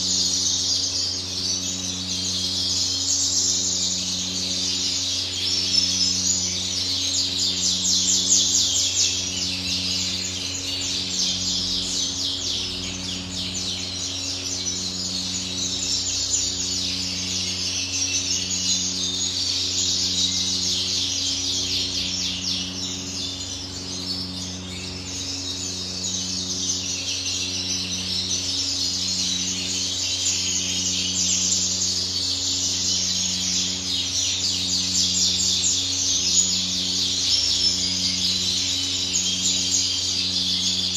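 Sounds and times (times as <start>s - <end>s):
low electrical hum: 0.0s - 40.9s
songbirds chirping: 0.0s - 40.9s.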